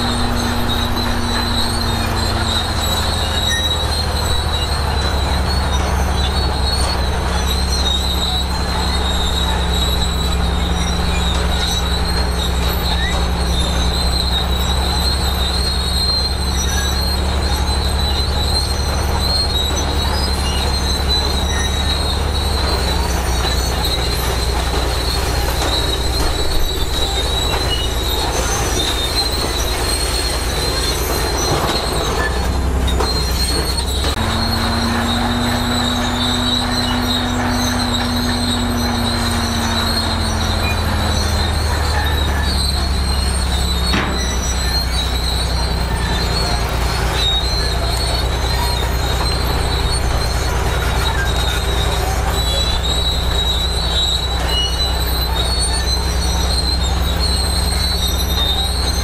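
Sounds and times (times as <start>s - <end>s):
bulldozer diesel engine running: 0.0s - 59.0s
steel tracks squealing: 0.0s - 59.0s.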